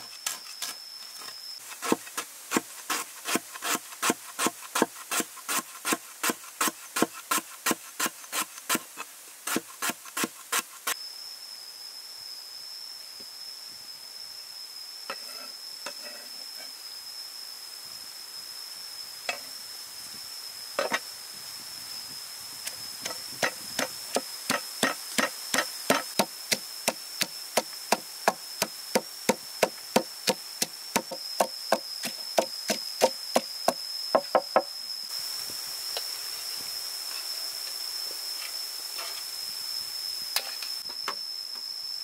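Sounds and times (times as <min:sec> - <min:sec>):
high-pitched insect buzz: 0:00.0 - 0:42.0.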